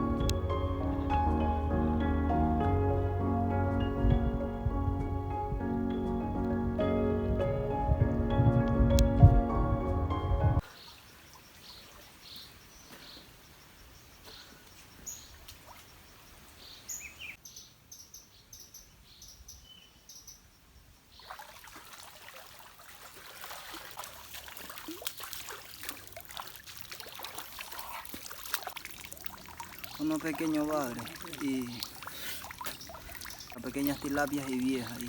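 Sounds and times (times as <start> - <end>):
water splashing and trickling: 0.0 - 13.0, 14.3 - 16.6, 21.1 - 35.0.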